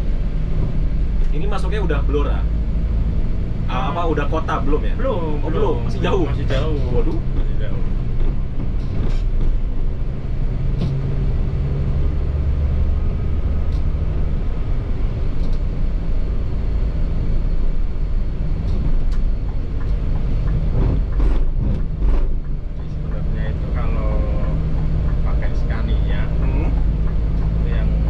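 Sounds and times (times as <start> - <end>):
bus diesel engine droning: 0.0 - 28.0
road noise: 0.0 - 28.0.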